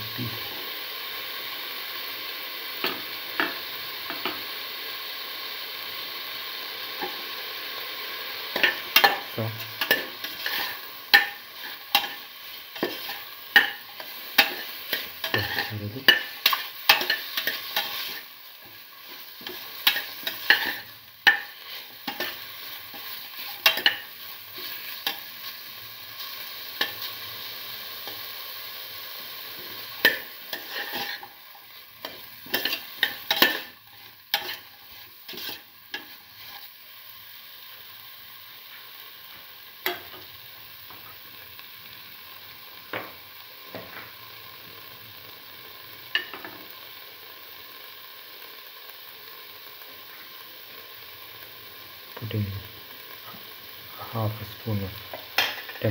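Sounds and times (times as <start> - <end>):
carrots sizzling in a pan: 0.0 - 55.9.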